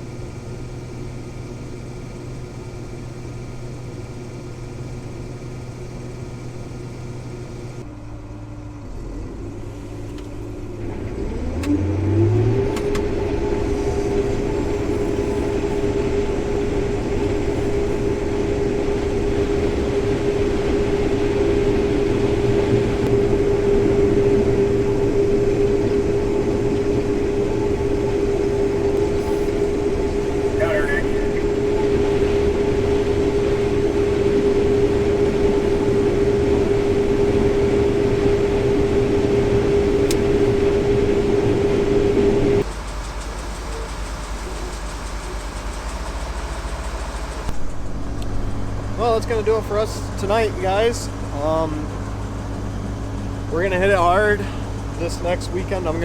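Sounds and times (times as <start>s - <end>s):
combine harvester engine: 0.0s - 56.0s
machinery whine: 0.0s - 56.0s.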